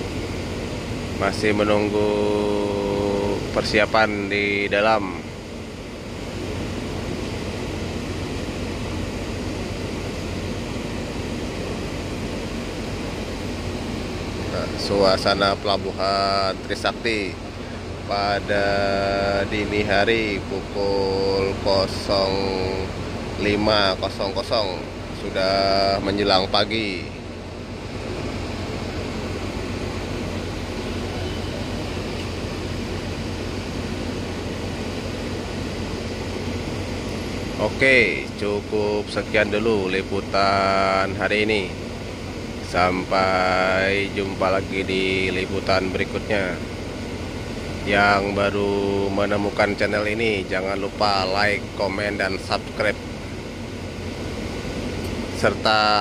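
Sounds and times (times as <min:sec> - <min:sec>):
ferry machinery humming: 0:00.0 - 0:56.0.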